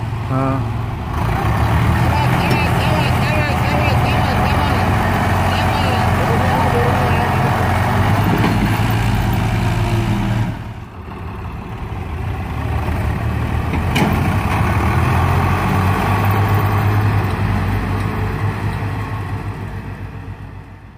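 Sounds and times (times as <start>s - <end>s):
diesel tractor engines under load: 0.0s - 20.9s.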